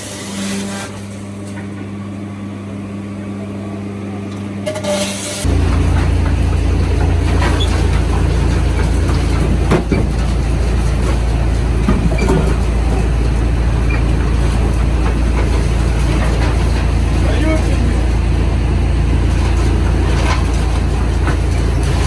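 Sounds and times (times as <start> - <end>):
sawmill machinery humming: 0.0 - 22.0.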